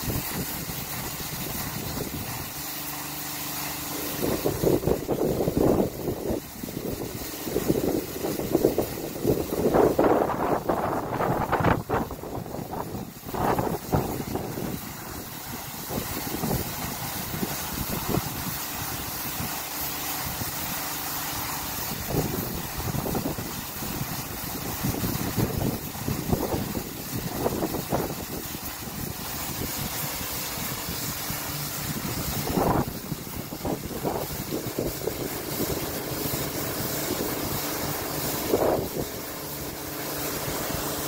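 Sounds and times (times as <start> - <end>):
machine hum: 0.0 - 41.0
water spray hissing: 0.0 - 41.0
rotating brushes: 4.0 - 41.0
wind buffeting microphone: 4.1 - 19.5, 21.8 - 39.3.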